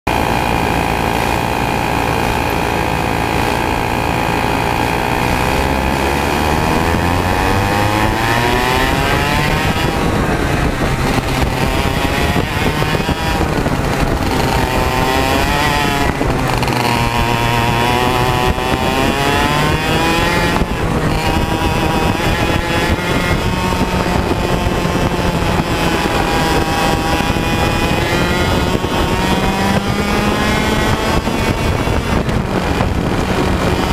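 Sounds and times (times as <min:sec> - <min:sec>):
kart engine revving: 0:00.1 - 0:33.9
other kart engines: 0:00.1 - 0:33.9.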